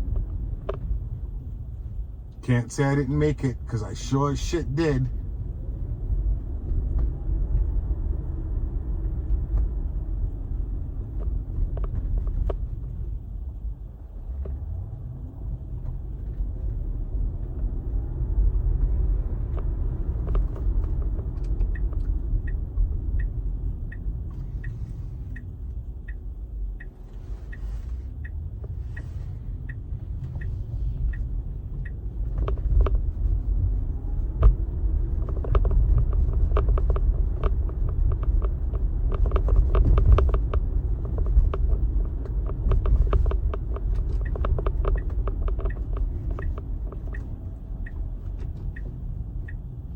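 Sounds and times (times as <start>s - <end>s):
road and tyre rumble: 0.0s - 49.9s
turn signal ticking: 0.0s - 49.9s.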